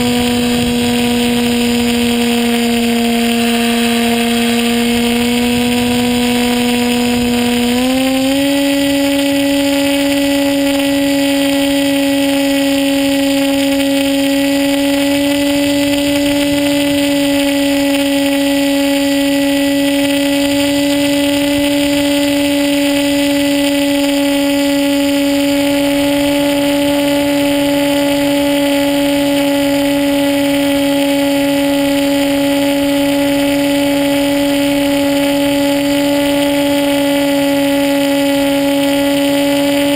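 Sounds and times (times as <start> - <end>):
model plane motor and propeller drone: 0.0 - 39.9
wind noise on microphone: 0.0 - 39.9.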